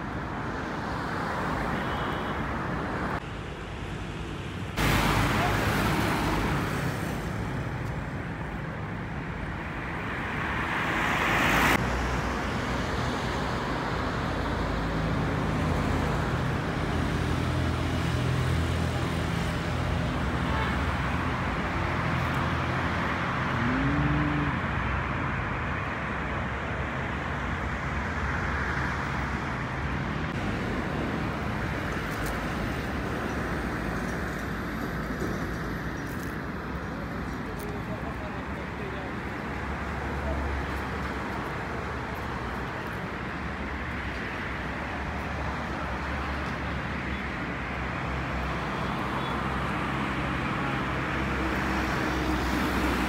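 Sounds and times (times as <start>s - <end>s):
road traffic noise: 0.0s - 53.0s
car engines passing: 2.5s - 53.0s.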